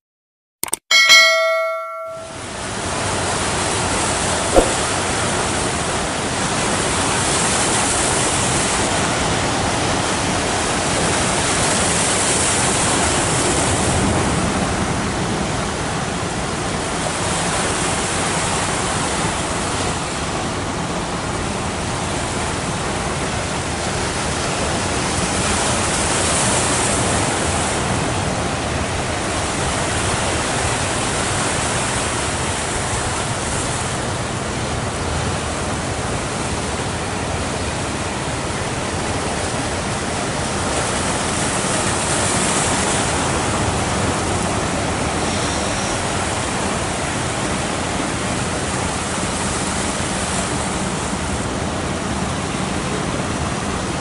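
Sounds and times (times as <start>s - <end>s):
ocean surf breaking: 1.1s - 54.0s.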